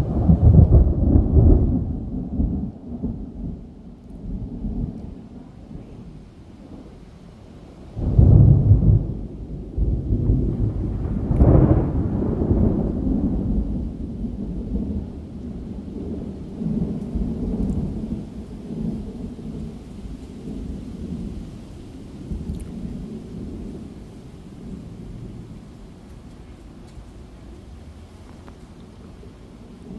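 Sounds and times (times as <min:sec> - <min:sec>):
thunder rumbling: 0:00.0 - 0:29.9.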